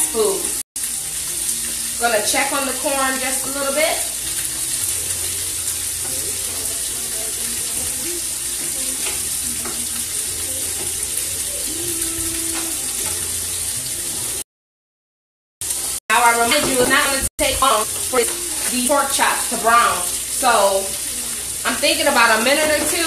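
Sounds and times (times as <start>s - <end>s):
meat sizzling in a frying pan: 0.0s - 14.4s, 15.6s - 23.0s.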